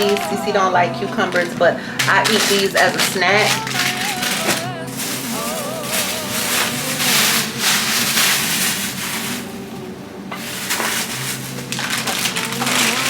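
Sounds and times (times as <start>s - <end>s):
background music: 0.0s - 13.0s
plastic bags rustling: 0.0s - 13.0s
sung melody: 0.0s - 13.0s.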